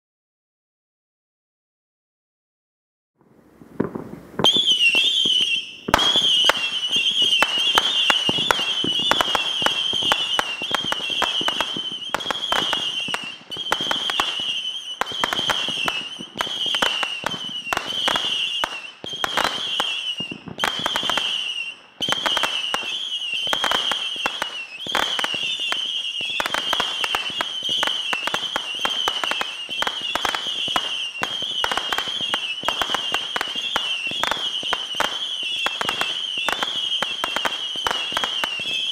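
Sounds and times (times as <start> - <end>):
fireworks pops and crackles: 3.2 - 38.9
whistling rockets: 3.8 - 38.9.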